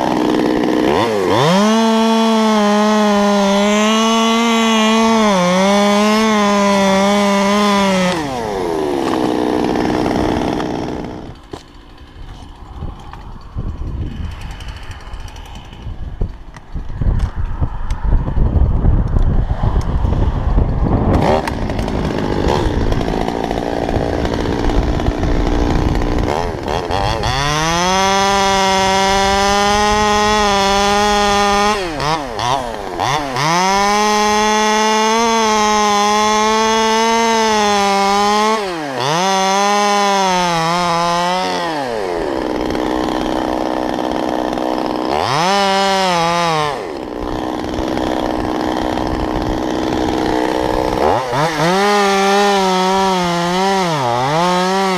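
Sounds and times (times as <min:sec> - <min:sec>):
chainsaw cutting and revving: 0:00.0 - 0:17.3, 0:19.4 - 0:54.9.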